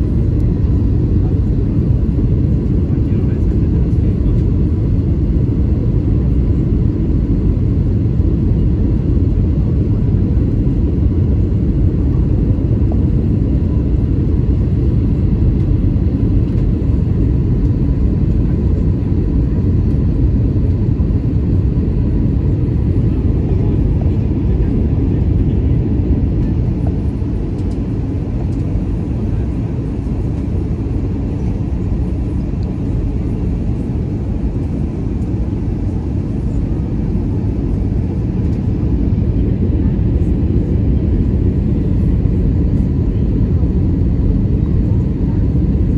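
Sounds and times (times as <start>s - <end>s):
jet engine low rumble from cabin: 0.0s - 45.9s.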